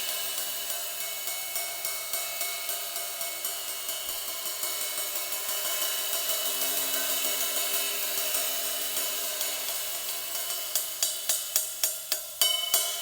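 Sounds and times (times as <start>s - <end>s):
sizzle ride cymbal played: 0.0s - 13.0s.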